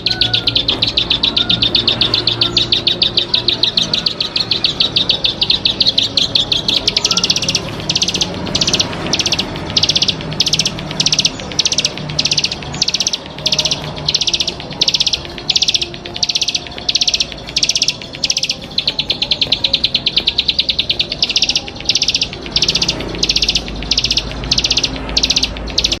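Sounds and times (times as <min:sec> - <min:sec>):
songbird buzzy trills: 0:00.0 - 0:26.0.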